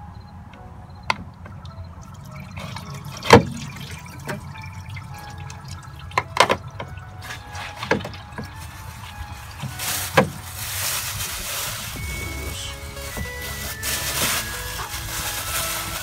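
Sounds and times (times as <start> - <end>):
coolant dripping and splashing: 1.5 - 16.0.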